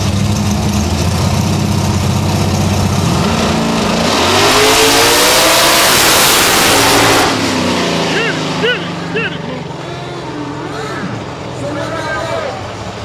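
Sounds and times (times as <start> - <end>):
race car engine revving: 0.0 - 11.7.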